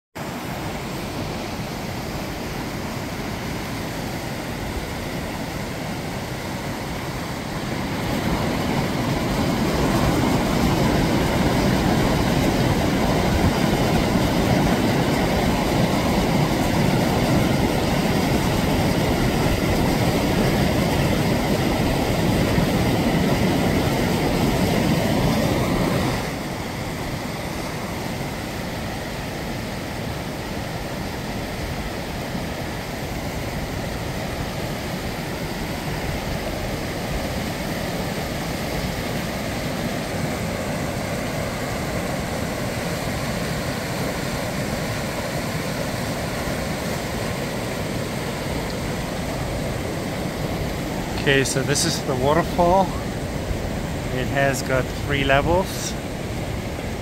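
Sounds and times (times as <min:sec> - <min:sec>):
stream and waterfall over rocks: 0:00.2 - 0:57.0.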